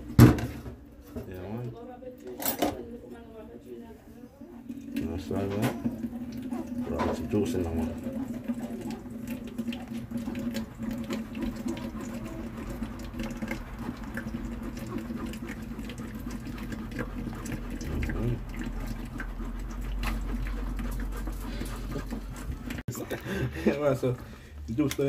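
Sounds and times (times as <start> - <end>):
liquid trickling and splashing: 4.4 - 25.0.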